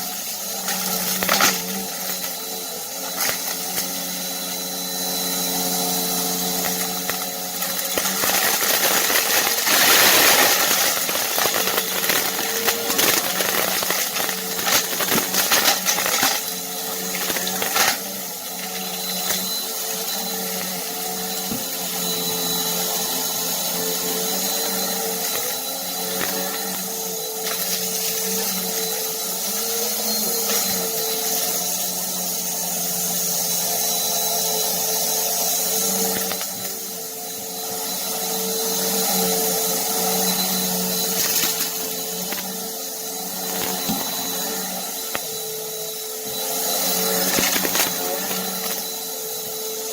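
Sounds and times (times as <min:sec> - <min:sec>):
vacuum cleaner motor hum: 0:00.0 - 0:49.9.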